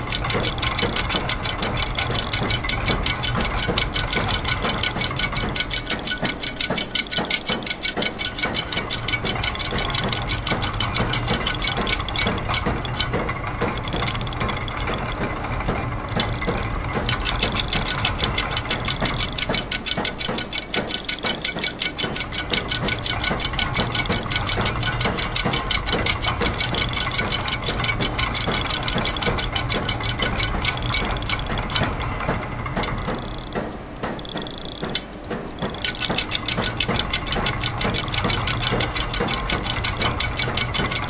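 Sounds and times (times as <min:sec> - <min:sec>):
ratchet-like clicking: 0:00.0 - 0:15.3, 0:16.1 - 0:41.0
low mechanical hum: 0:00.0 - 0:41.0.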